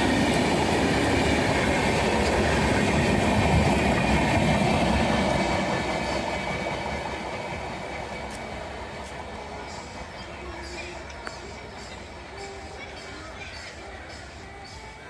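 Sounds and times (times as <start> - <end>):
train rumbling past on rails: 0.0 - 15.0.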